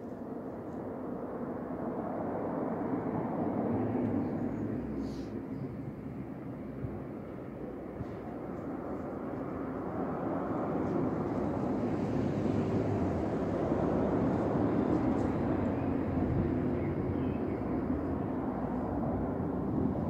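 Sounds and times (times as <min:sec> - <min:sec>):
distant engine rumble: 0:02.8 - 0:20.0.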